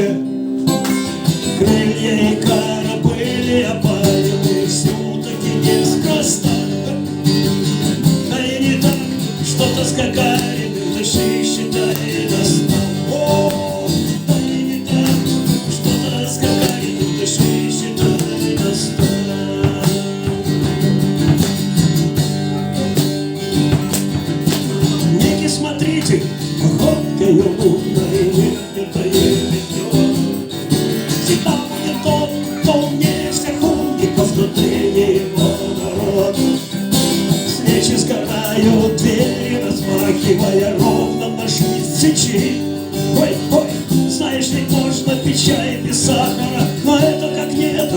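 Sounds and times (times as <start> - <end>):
guitar strumming: 0.0 - 47.9.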